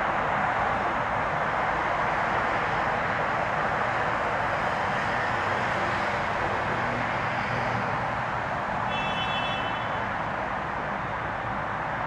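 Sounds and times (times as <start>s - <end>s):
distant city traffic hum: 0.0s - 12.0s.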